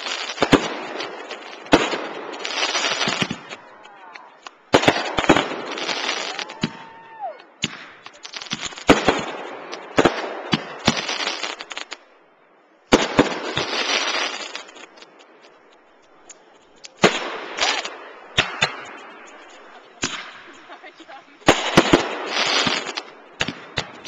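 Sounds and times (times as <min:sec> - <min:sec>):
fireworks bangs: 0:00.0 - 0:12.1, 0:12.8 - 0:24.0
fireworks crackling: 0:00.0 - 0:24.0.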